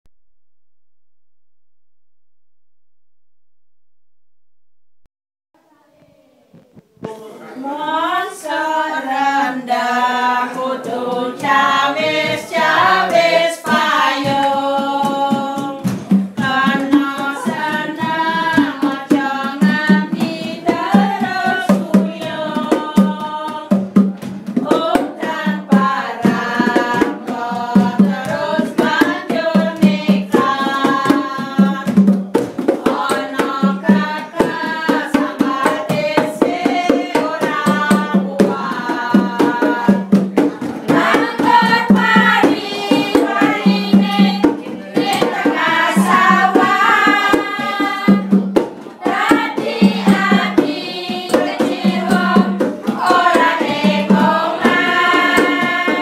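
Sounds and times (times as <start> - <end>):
voices singing: 7.0 - 56.0
bongos: 8.6 - 56.0
hand drumming on plastic bucket: 10.4 - 56.0.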